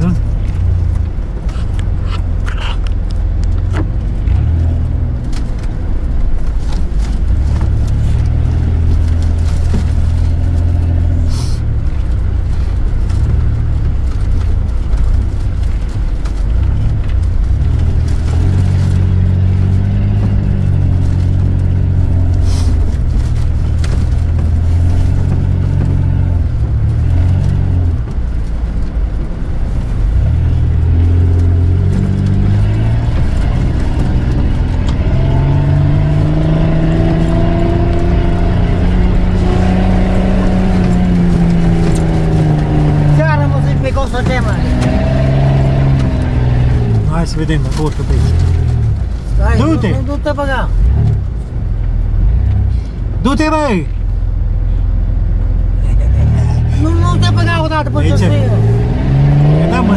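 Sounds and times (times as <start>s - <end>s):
off-road vehicle engine under load: 0.0s - 59.9s.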